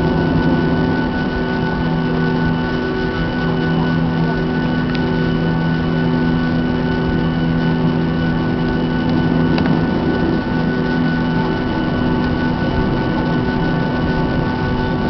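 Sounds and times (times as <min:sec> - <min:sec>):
airliner engines humming: 0:00.0 - 0:15.0.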